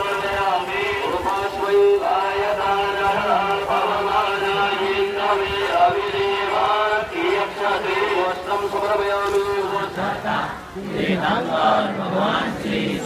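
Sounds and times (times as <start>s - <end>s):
crowd chanting: 2.2s - 13.0s.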